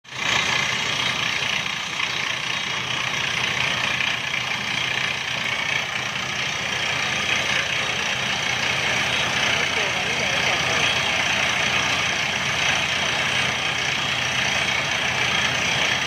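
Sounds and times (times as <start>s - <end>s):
drilling rig engine running: 0.0s - 16.0s.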